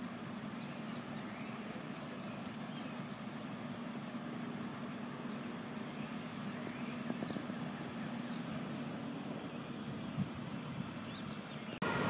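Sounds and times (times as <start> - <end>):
distant vehicle engine hum: 0.0 - 12.0.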